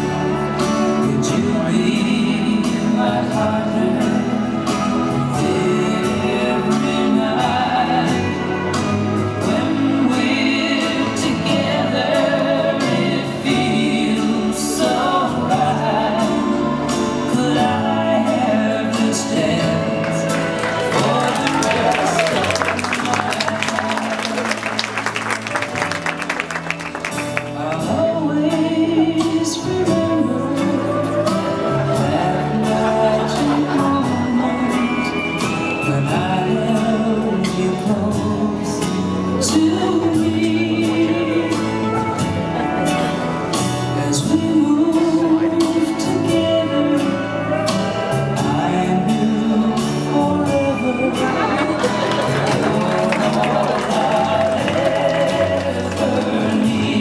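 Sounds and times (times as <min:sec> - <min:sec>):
song over loudspeakers: 0:00.0 - 0:57.0.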